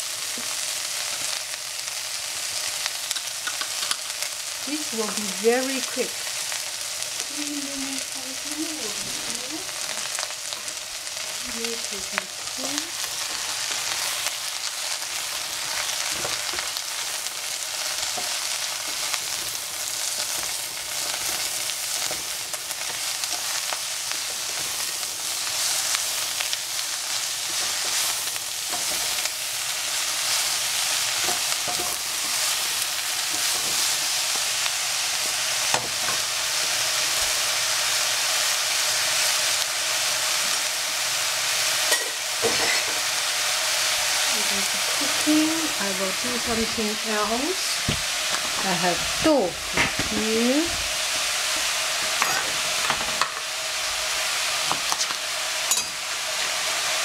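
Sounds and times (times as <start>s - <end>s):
vegetables sizzling in hot oil: 0.0s - 57.0s.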